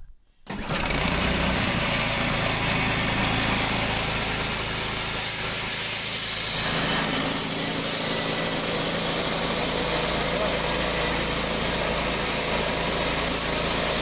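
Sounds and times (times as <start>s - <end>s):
small gasoline engine running: 0.5s - 14.0s.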